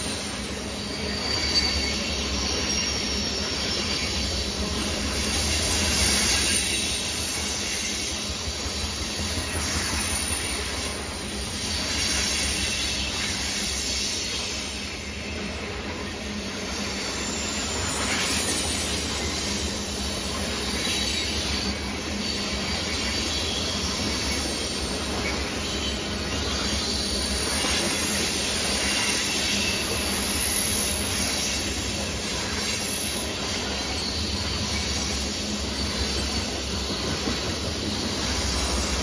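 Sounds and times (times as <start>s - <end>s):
wheels squealing and hissing: 0.0s - 15.2s, 16.0s - 39.0s
freight train rolling past: 0.0s - 39.0s.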